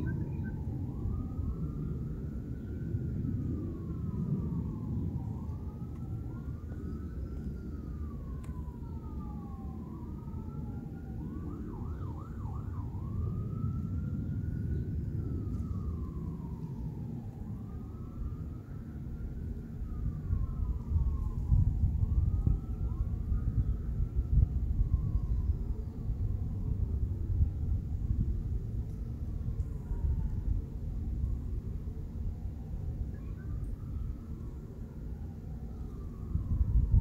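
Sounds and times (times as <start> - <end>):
warning siren wailing: 0.0 - 37.0.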